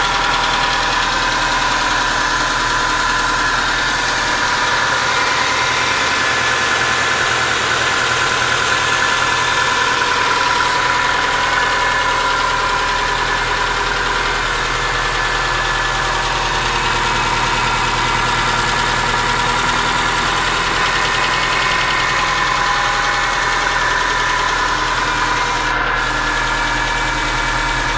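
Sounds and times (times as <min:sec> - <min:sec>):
car engine idling: 0:00.0 - 0:27.9
engine knocking: 0:00.0 - 0:27.9.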